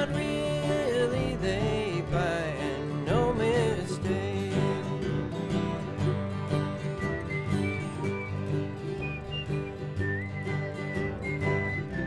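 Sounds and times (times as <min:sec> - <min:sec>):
acoustic string band playing: 0:00.0 - 0:12.0.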